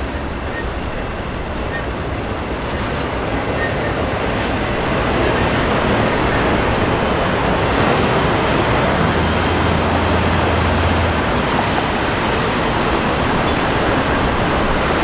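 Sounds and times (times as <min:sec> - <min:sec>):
freight train cars rushing past: 0:00.0 - 0:15.0.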